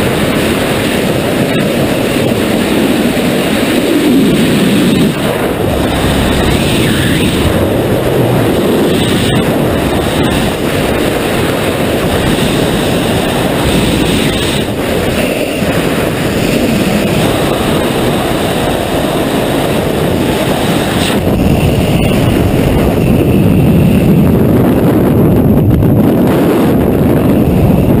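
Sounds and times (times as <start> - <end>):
wind roaring over microphone: 0.0 - 28.0.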